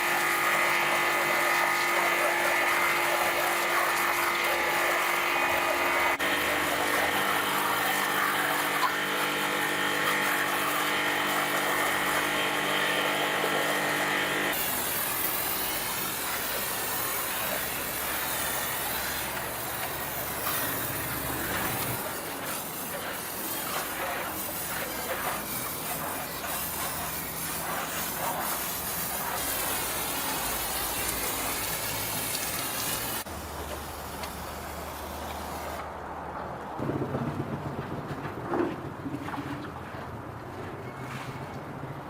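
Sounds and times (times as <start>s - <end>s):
machine running: 0.0s - 35.8s.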